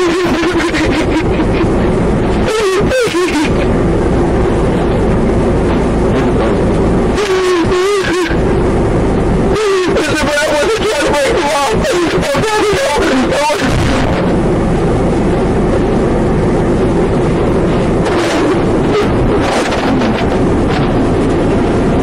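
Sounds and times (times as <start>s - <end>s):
car rumble: 0.0s - 22.0s.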